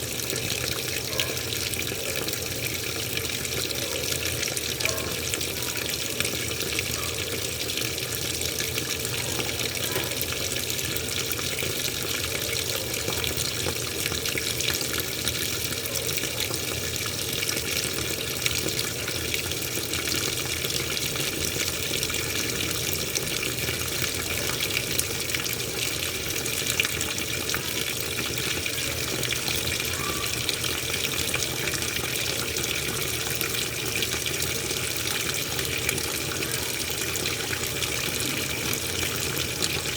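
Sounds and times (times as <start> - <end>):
washing machine water rushing: 0.0 - 39.9.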